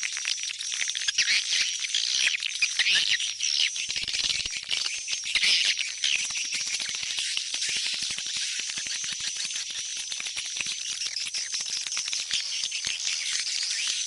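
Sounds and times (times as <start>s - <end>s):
swiftlets chirping and twittering: 1.0s - 14.0s.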